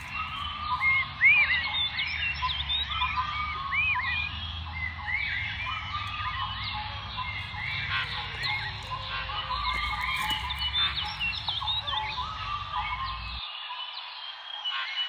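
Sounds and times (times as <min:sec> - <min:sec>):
small birds chirping: 0:00.0 - 0:14.5.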